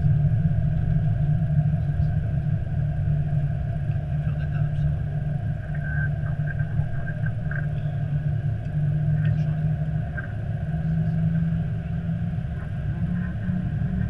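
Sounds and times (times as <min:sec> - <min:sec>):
airliner cockpit rumble: 0:00.0 - 0:14.0.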